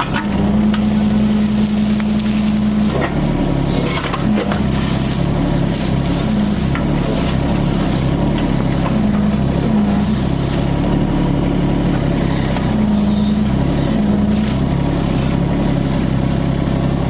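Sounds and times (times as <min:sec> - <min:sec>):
excavator diesel engine running: 0:00.0 - 0:17.0
hydraulics whine: 0:00.0 - 0:17.0.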